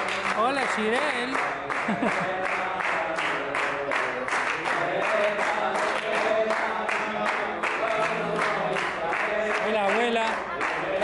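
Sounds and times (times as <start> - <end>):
rhythmic clapping: 0.0 - 11.0
group of people singing: 1.4 - 11.0.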